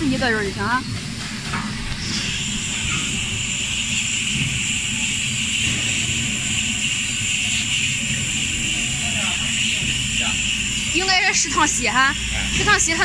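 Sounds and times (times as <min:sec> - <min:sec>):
popcorn machine rumble: 0:00.0 - 0:13.0
steady hiss: 0:01.2 - 0:13.0.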